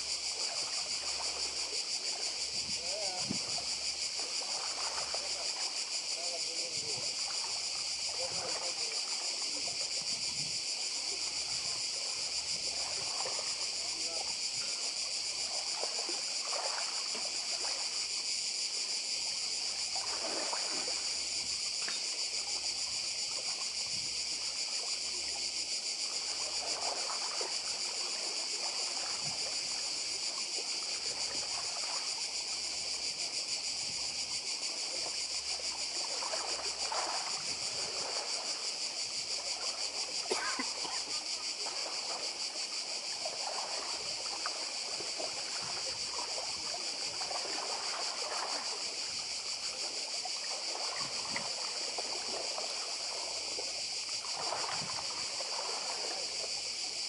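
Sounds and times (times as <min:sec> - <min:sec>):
cicadas singing: 0:00.0 - 0:57.0
waves lapping on pebbles: 0:00.0 - 0:57.0.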